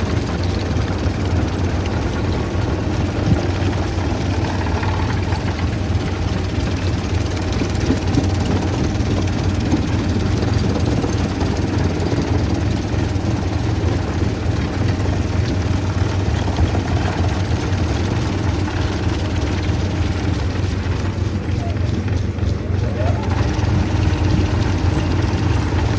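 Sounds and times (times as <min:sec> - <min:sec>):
low engine drone: 0:00.0 - 0:25.9
rough mechanical noise: 0:00.0 - 0:25.9.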